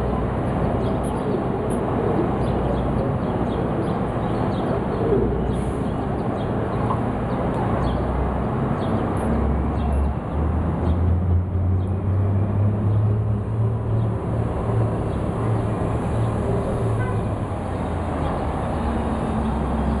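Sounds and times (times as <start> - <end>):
city traffic: 0.0 - 20.0.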